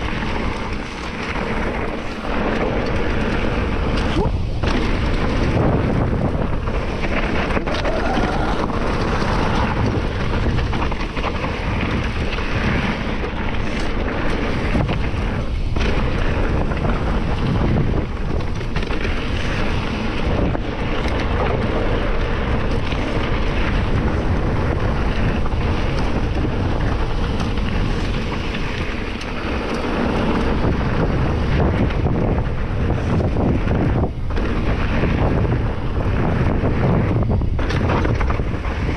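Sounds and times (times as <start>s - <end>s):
bike knocks and rattles: 0.0s - 38.9s
tyres rumbling on trail: 0.0s - 38.9s
wind buffeting microphone: 0.0s - 38.9s.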